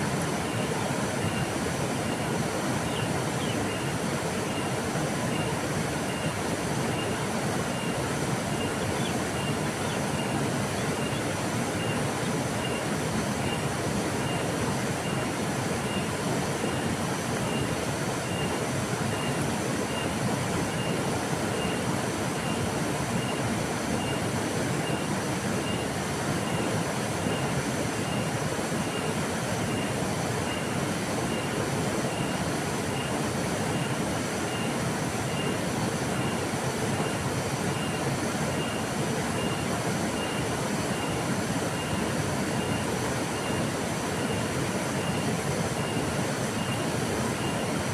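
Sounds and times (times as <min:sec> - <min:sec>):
river water rushing: 0:00.0 - 0:47.9.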